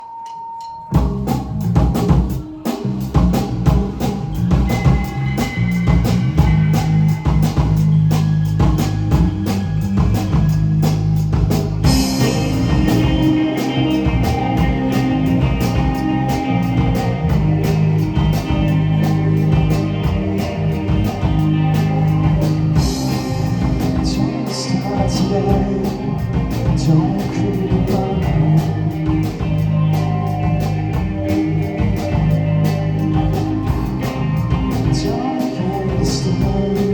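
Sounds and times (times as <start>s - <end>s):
drum kit: 0.0s - 36.9s
bass guitar: 0.9s - 36.9s
live rock band playing: 0.9s - 36.9s
electric guitar: 1.0s - 36.9s.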